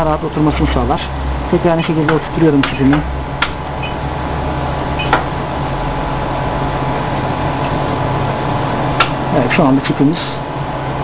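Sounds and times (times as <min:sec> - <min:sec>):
rework station humming: 0:00.0 - 0:11.0.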